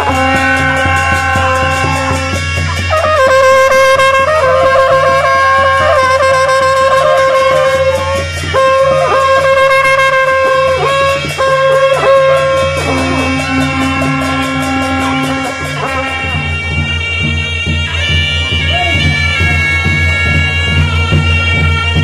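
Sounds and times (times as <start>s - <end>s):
long horns: 0.0s - 22.0s
shehnai reed pipes melody: 0.0s - 22.0s
stick-beaten drum: 0.0s - 22.0s.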